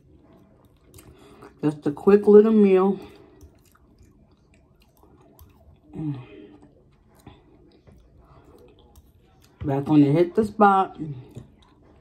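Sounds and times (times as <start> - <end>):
chewing and mouth sounds: 0.0 - 2.0, 3.0 - 9.7, 10.9 - 12.0.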